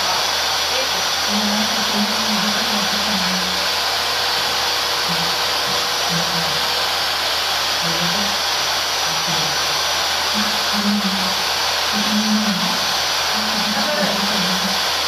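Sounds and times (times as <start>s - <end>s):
table saw cutting wood: 0.0s - 15.0s.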